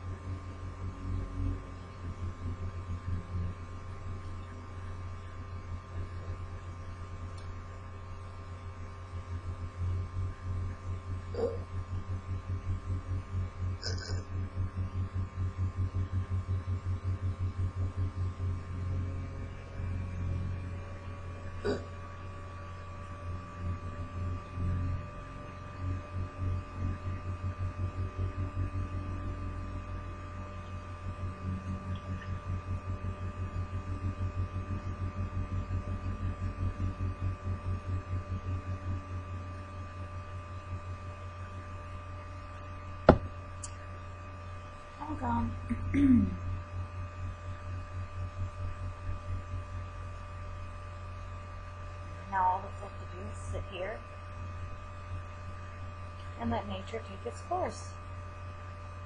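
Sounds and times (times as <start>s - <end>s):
faint high whine: 0.0s - 59.0s
low electrical hum: 0.0s - 59.0s.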